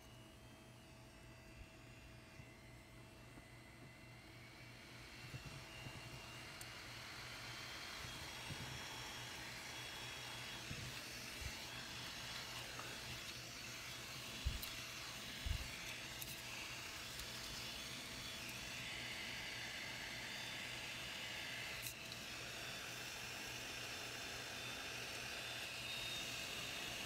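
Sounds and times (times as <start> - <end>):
blower fan whirring: 0.0 - 27.0.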